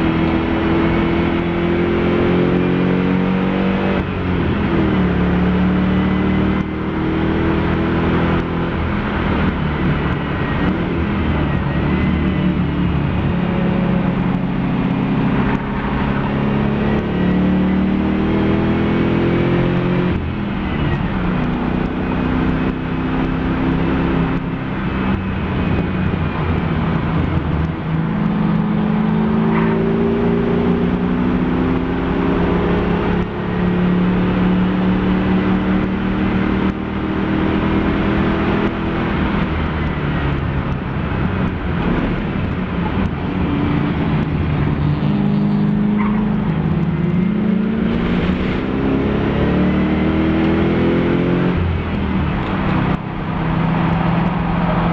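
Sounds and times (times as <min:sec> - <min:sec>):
race car engine at full throttle: 0:00.0 - 0:54.9.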